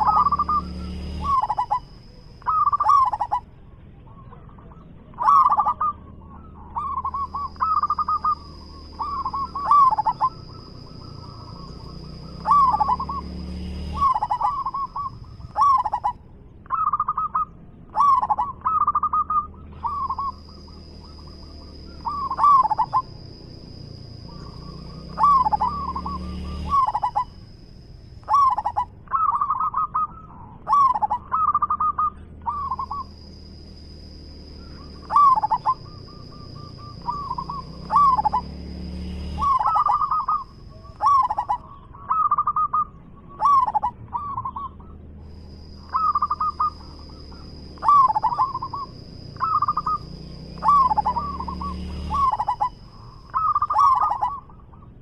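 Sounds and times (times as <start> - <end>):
dove cooing: 0.0 - 27.6, 28.2 - 55.0.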